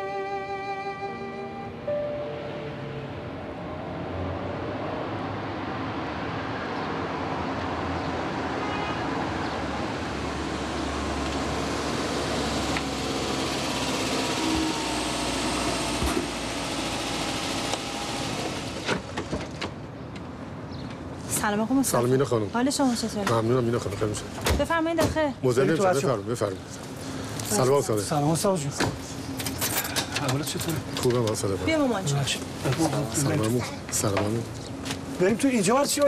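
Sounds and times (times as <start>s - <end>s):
passing road traffic: 0.0s - 36.0s.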